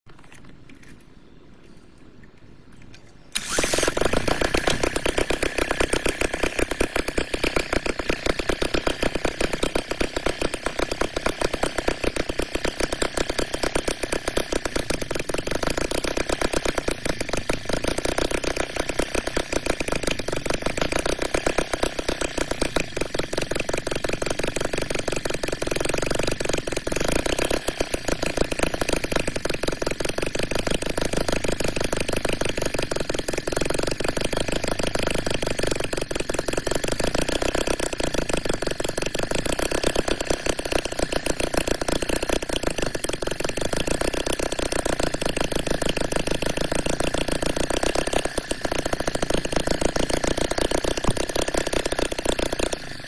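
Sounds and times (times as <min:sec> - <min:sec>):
cordless drill spinning: 0:03.3 - 0:53.0
model engine running fast: 0:03.4 - 0:53.0.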